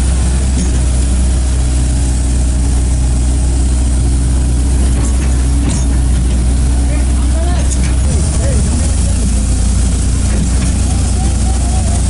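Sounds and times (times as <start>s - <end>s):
excavator engine idling: 0.0s - 12.0s
truck diesel engine idling: 0.0s - 12.0s.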